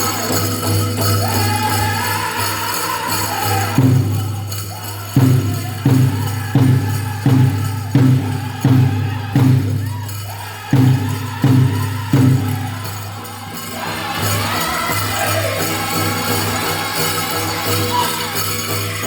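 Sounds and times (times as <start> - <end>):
jangling bells: 0.0 - 19.0
large hand drum beat: 0.0 - 19.0
people singing: 0.0 - 19.0.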